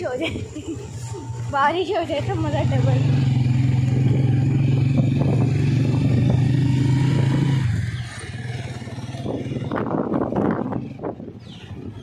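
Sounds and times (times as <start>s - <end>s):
motorcycle engine droning: 0.0s - 12.0s
road noise: 0.0s - 12.0s.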